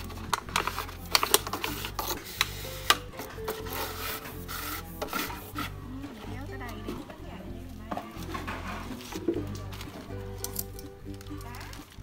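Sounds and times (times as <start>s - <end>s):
bottles clicking and knocking: 0.0s - 12.0s
plastic bottles scraping on pole: 0.0s - 12.0s.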